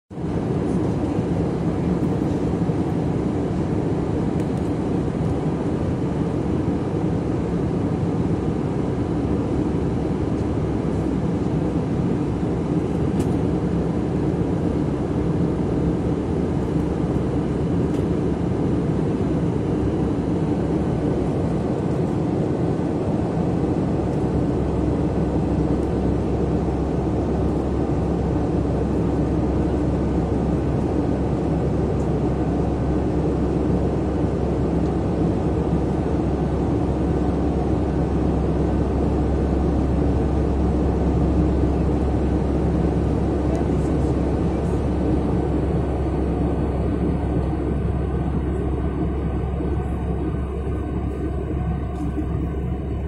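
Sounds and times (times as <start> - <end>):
jet cabin engine and airflow drone: 0.1 - 53.0
faint steady hums: 0.2 - 53.0.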